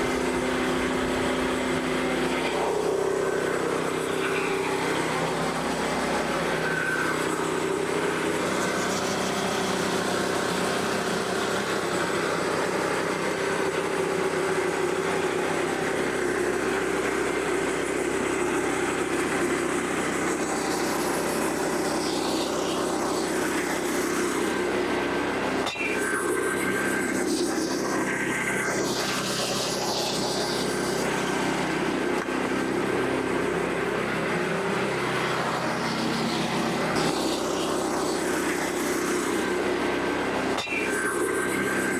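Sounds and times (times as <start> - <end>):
sawmill engine cutting log: 0.0 - 41.9.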